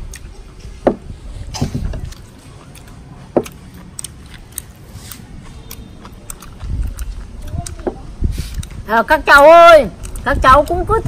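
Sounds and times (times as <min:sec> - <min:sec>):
crunching and chewing fried food: 0:00.0 - 0:08.9, 0:10.0 - 0:10.8.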